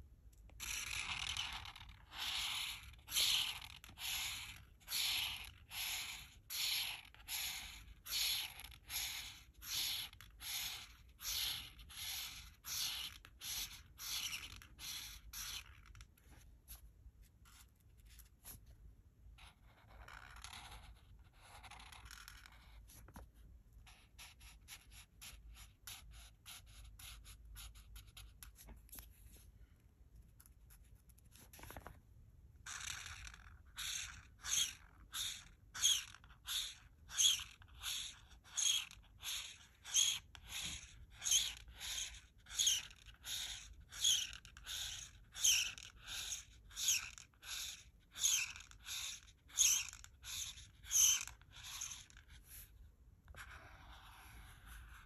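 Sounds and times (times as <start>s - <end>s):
marker rubbing on paper: 0.6s - 18.7s, 19.4s - 23.2s, 23.8s - 29.4s, 32.7s - 55.0s.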